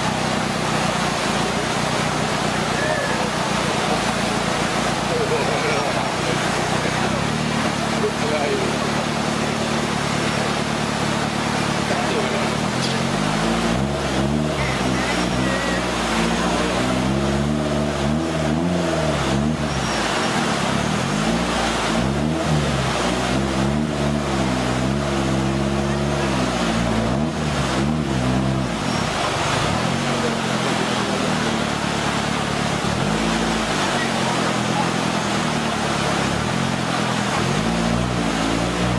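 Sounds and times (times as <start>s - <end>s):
off-road vehicle engine revving: 0.0s - 38.9s
white water rushing: 0.0s - 38.9s.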